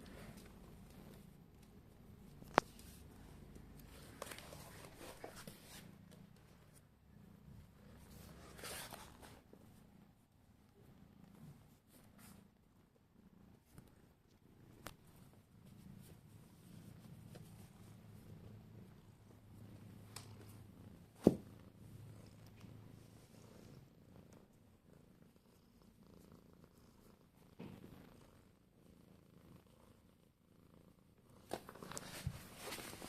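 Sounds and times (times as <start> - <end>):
cat purring: 0.0 - 33.0.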